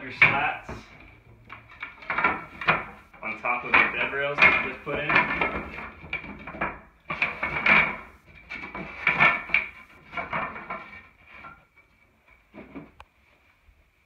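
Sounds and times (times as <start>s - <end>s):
wooden bed slats clattering: 0.0s - 13.0s.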